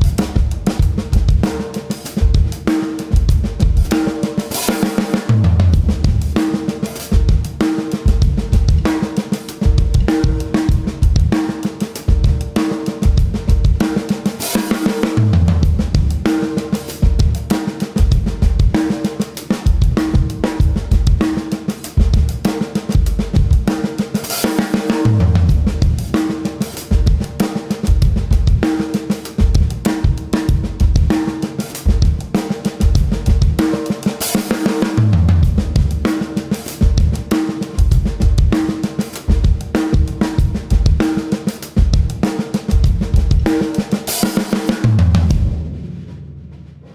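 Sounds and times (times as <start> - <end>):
low tom fills: 0.0 - 14.0, 14.6 - 19.0, 19.7 - 41.1, 41.8 - 46.9
drum kit groove: 0.0 - 46.9.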